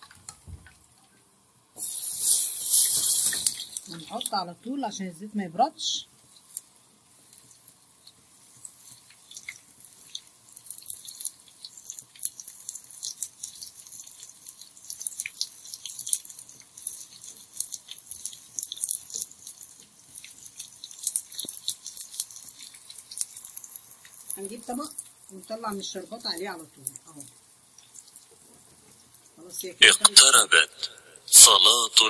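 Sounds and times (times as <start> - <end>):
hot oil crackling and popping: 0.0 - 31.8.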